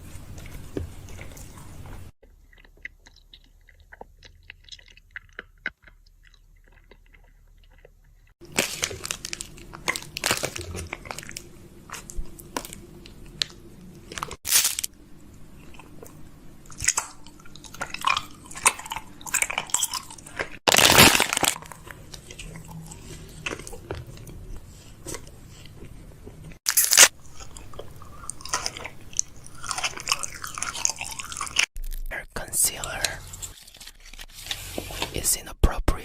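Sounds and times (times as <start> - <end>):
makeup items crunching and crackling: 0.3 - 14.9, 15.6 - 35.2.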